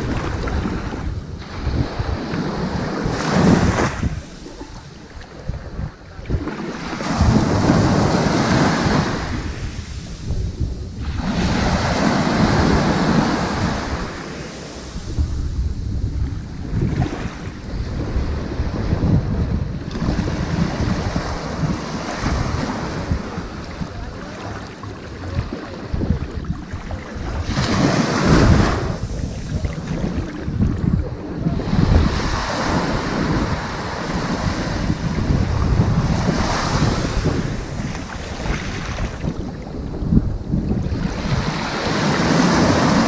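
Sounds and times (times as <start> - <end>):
ocean waves on beach: 0.0 - 43.0
wind rumble on microphone: 0.0 - 43.0.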